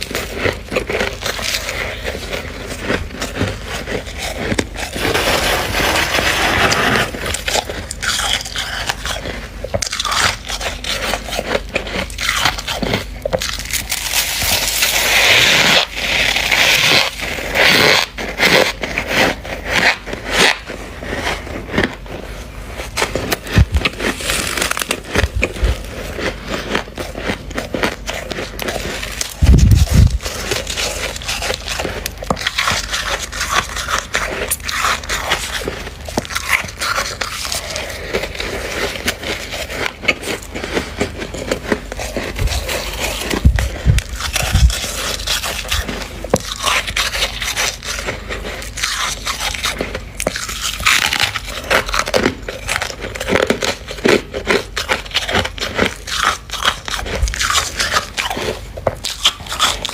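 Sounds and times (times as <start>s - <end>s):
frost crunching and crackling: 0.0s - 59.9s.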